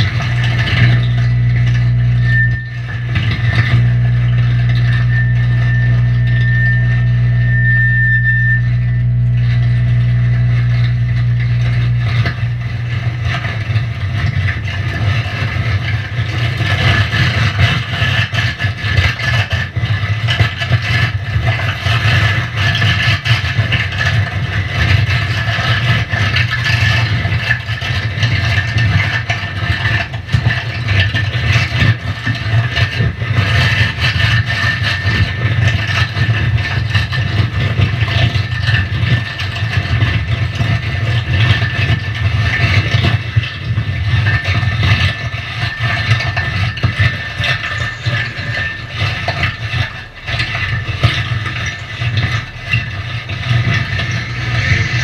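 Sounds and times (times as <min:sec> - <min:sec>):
crackling scraping texture: 0:00.0 - 0:55.0
electric guitar noise drone: 0:00.0 - 0:55.0.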